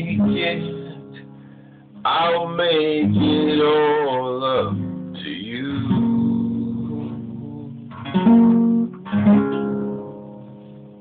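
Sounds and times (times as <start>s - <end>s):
acoustic guitar strums: 0.0s - 11.0s.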